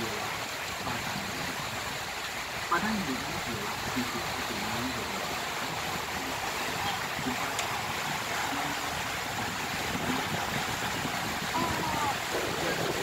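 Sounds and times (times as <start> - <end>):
water rushing past boat: 0.0 - 13.0.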